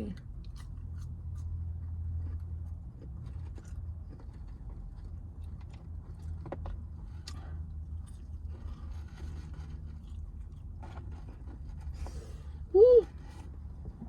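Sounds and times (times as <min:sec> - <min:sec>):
faint chewing: 0:00.0 - 0:14.0.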